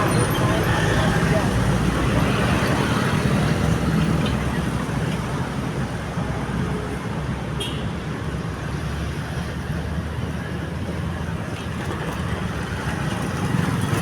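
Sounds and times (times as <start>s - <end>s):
passing road traffic: 0.0s - 14.0s.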